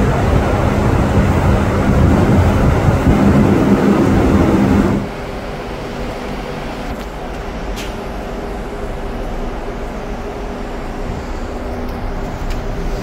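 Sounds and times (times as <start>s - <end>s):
machinery hum: 0.0s - 13.0s
refrigeration unit fan running: 0.0s - 13.0s.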